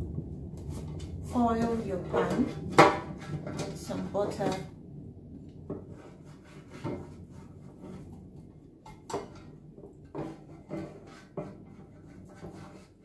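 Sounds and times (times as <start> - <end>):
pastry brush scraping a pan: 0.7 - 4.6, 5.8 - 13.0.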